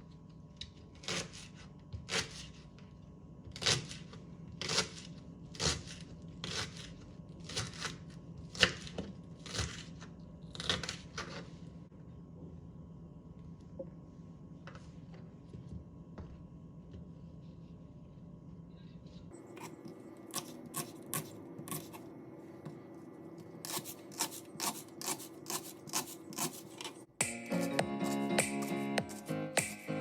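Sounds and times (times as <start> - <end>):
room hum: 0.0 - 30.0.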